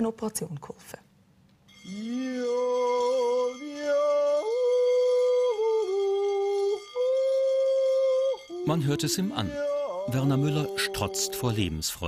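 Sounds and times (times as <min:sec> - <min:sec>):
man yodeling: 0:01.9 - 0:12.0.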